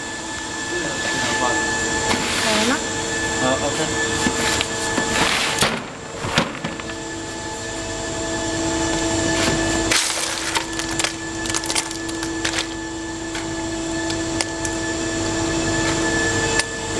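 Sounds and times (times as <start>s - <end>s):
machine hum: 0.0s - 16.9s.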